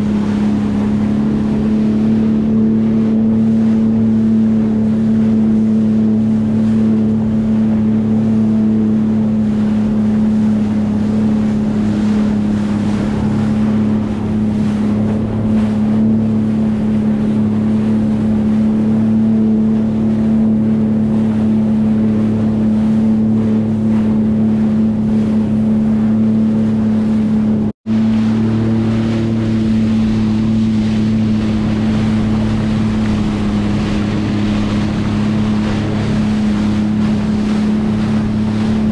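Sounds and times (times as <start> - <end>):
jet ski engine droning: 0.0 - 38.9
water rushing past hull: 0.0 - 38.9
wind on microphone: 0.0 - 38.9.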